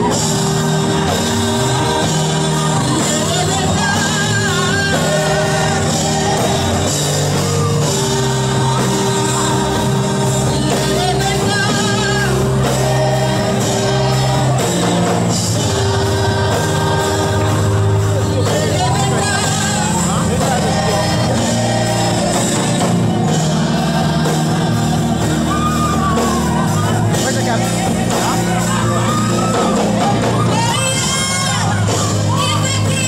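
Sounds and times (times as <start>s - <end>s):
gospel choir singing: 0.0s - 33.0s
instrumental accompaniment: 0.0s - 33.0s.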